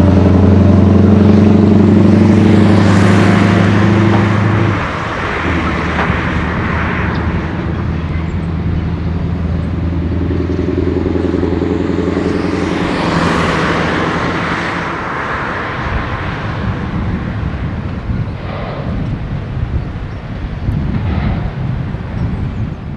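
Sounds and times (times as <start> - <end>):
diesel truck driving past: 0.0 - 22.7.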